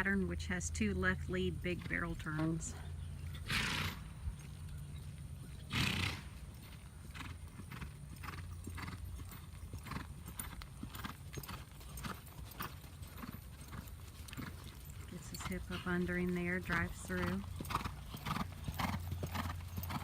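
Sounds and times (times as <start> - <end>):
horse hoofbeats loping: 0.0 - 20.0.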